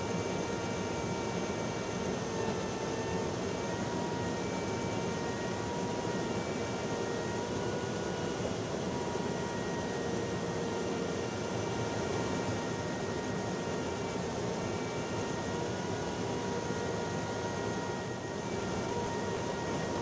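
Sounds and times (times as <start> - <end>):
faint whining tones: 0.0 - 20.0
jet engines droning: 0.0 - 20.0.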